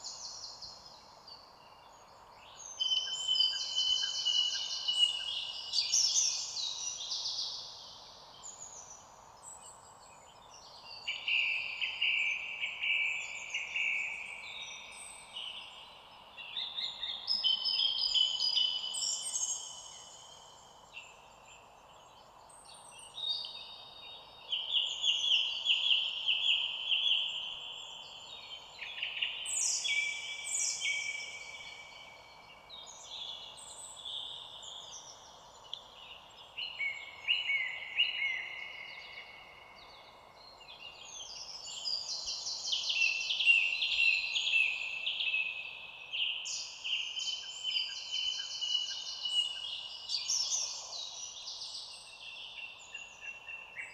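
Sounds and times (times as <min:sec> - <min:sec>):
faint background hiss: 0:00.0 - 0:53.9
songbirds trilling and chirping: 0:00.0 - 0:53.9.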